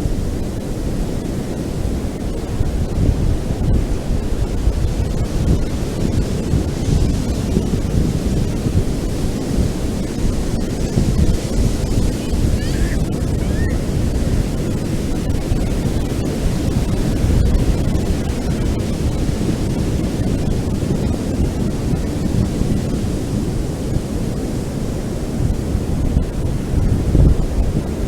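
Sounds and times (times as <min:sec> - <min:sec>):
ocean waves on beach: 0:00.0 - 0:28.0
wind on microphone: 0:00.0 - 0:28.0.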